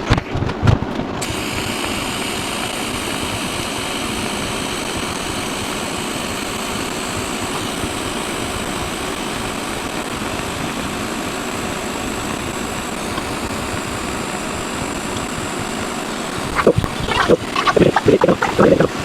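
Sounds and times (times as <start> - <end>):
welder drone with hiss: 1.2 - 19.0.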